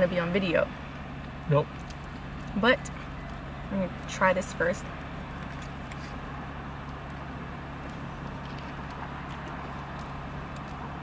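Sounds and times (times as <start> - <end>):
car cabin engine hum: 0.0 - 11.0.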